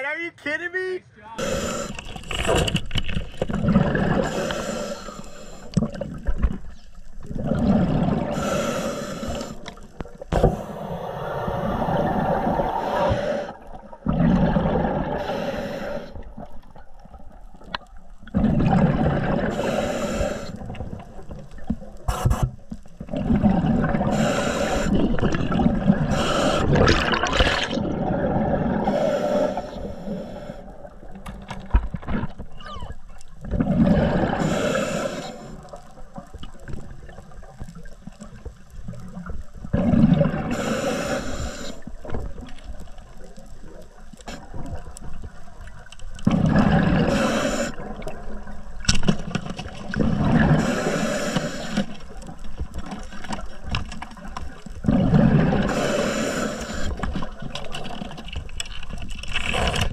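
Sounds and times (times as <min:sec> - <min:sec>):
muffled underwater rushing and bubbling: 0:01.4 - 0:59.9.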